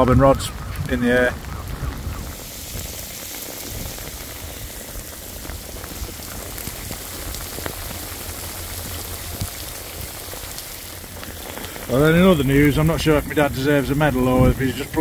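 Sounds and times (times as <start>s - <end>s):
torrential rain: 0.0s - 15.0s.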